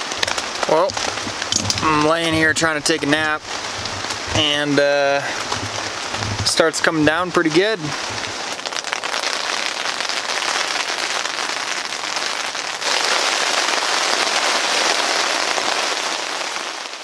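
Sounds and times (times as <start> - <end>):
heavy rain on a tent: 0.0 - 17.0.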